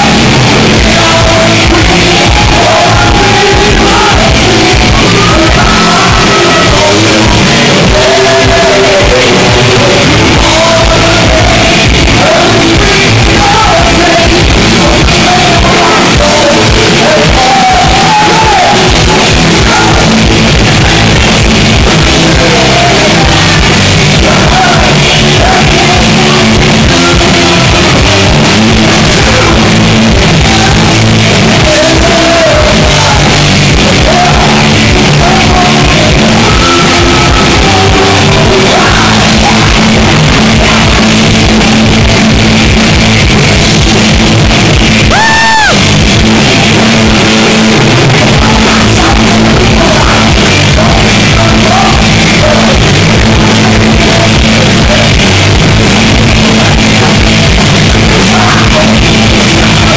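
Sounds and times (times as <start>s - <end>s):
shouted vocals: 0.0s - 42.7s, 44.9s - 59.9s
distorted electric guitar: 0.0s - 59.9s
live rock band: 0.0s - 59.9s.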